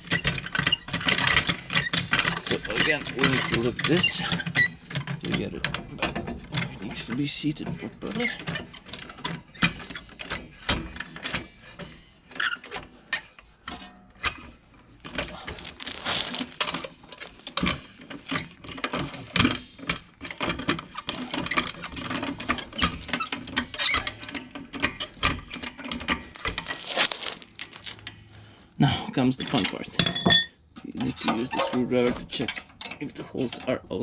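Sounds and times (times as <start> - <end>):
hand tools clicking and scraping metal: 0.0 - 28.8, 29.4 - 34.0.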